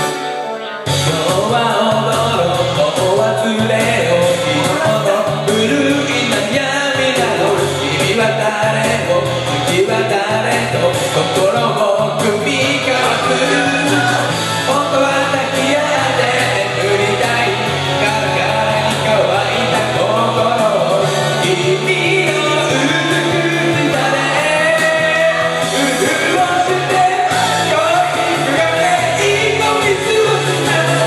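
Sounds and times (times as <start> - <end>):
person singing along: 0.0 - 31.0
upbeat rock backing track: 0.0 - 31.0.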